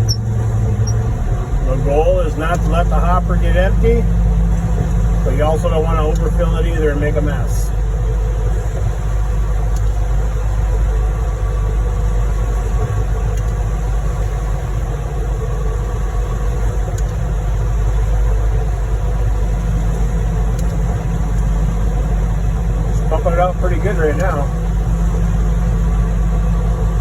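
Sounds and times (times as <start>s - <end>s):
diesel truck engines rumbling: 0.0s - 27.0s.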